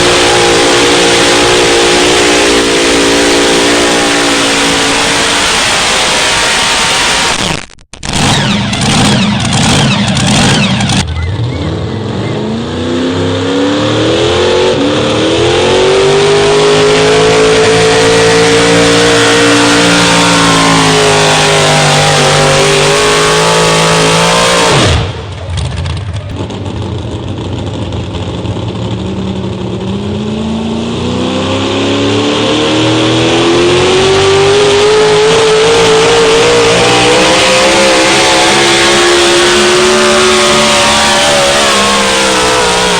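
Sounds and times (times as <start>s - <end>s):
pulling engine at full throttle: 0.0s - 42.9s.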